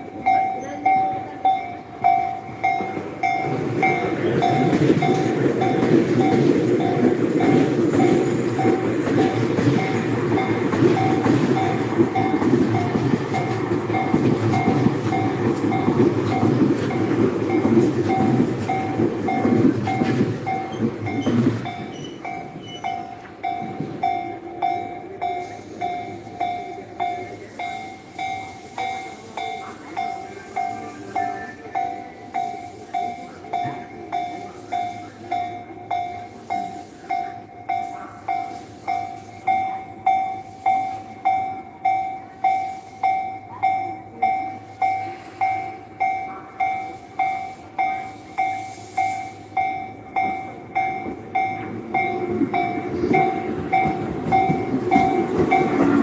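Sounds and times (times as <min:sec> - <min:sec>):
level crossing warning bell: 0:00.0 - 0:56.0
train wheels clattering on rails: 0:00.0 - 0:56.0.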